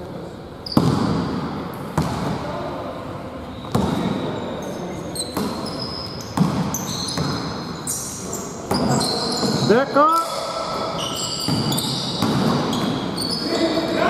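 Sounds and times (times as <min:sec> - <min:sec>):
sneakers squeaking: 0:00.6 - 0:02.5, 0:03.4 - 0:14.0.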